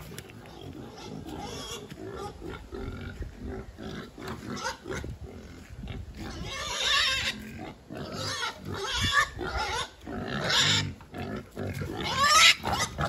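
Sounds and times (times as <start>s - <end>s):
pigs squealing: 0.3s - 5.2s, 6.0s - 13.0s.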